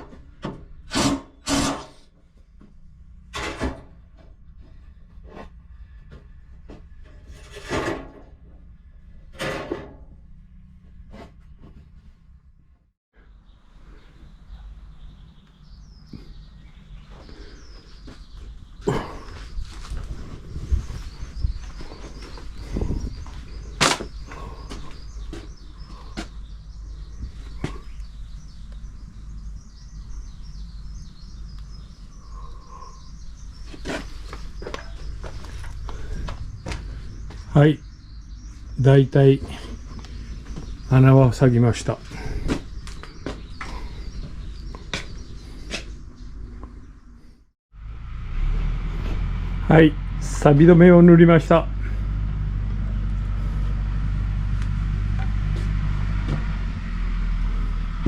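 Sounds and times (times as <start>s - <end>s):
steady low hum: 10.0s - 47.5s, 48.8s - 58.0s.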